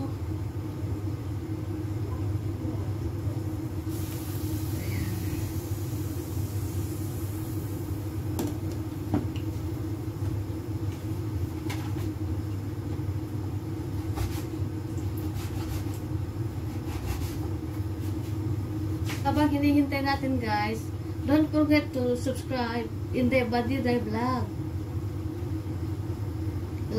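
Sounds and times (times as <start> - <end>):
gas burner rumble: 0.0 - 26.9.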